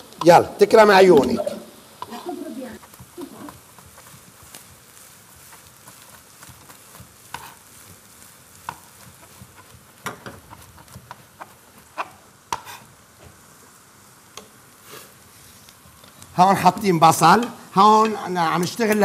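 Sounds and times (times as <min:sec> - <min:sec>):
food frying in pans: 0:00.0 - 0:19.0.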